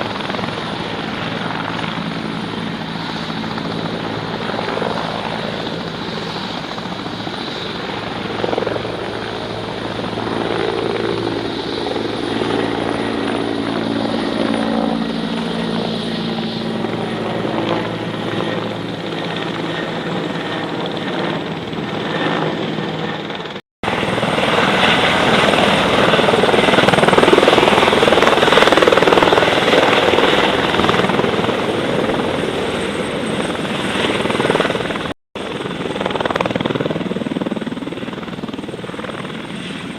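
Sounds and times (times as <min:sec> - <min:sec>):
propeller aircraft engine drone: 0:00.0 - 0:39.9
rough aircraft engine: 0:00.0 - 0:39.9.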